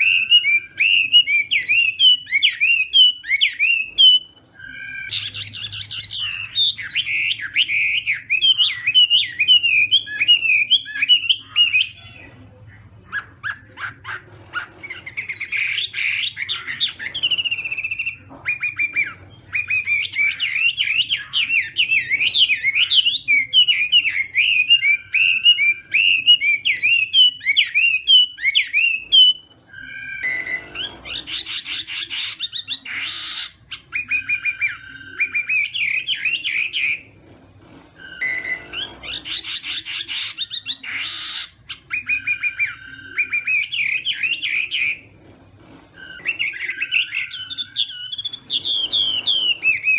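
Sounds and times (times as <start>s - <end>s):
bird singing whistled phrases: 0.0s - 12.0s, 15.2s - 37.0s, 38.0s - 45.0s, 46.0s - 49.9s.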